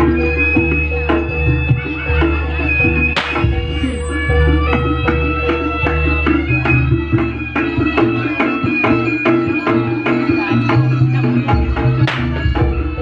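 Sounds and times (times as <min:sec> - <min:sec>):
drums beating quickly: 0:00.0 - 0:13.0
ringing gong and metallophones: 0:00.0 - 0:13.0.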